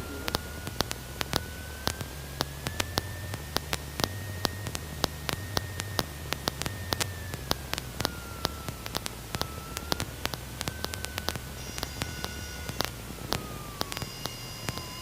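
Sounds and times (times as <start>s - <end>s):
low engine hum: 0.0s - 14.1s
faint whine: 0.0s - 15.0s
intercom hiss: 0.0s - 15.0s
sharp clicks: 0.0s - 15.0s.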